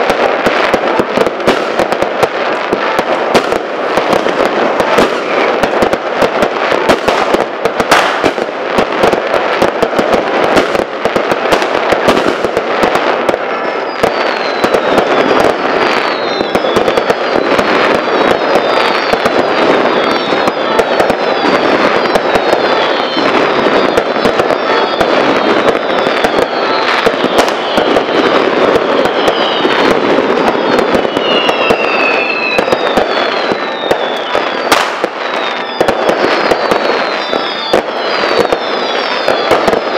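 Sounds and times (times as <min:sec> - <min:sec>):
falling firework whistles: 0:00.0 - 0:39.9
fireworks bangs and crackling: 0:00.0 - 0:39.9.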